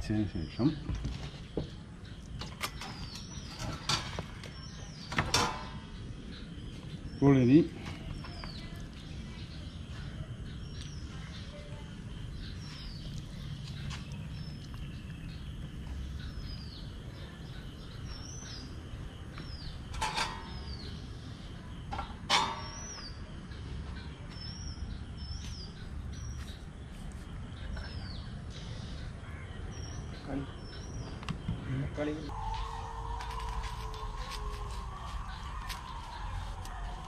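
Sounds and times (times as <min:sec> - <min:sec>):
low outdoor rumble: 0:00.0 - 0:37.0
small bird chirping: 0:00.0 - 0:37.0.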